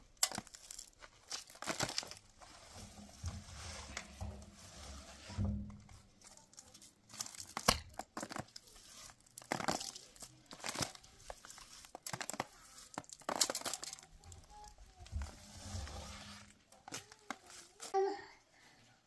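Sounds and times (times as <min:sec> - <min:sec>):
material crinkling and tearing: 0:00.0 - 0:18.0.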